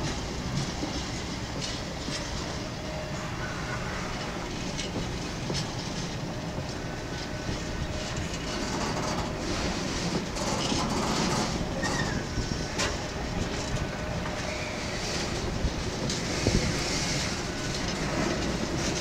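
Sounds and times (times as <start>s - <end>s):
train wheels rumbling on rail: 0.0s - 19.0s
wheels clicking over rail joints: 0.0s - 19.0s.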